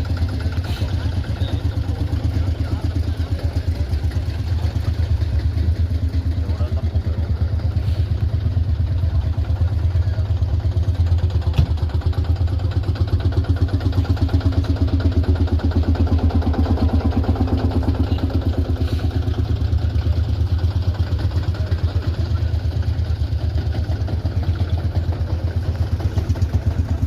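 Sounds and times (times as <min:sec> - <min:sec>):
old vehicle engine idling: 0:00.0 - 0:27.0.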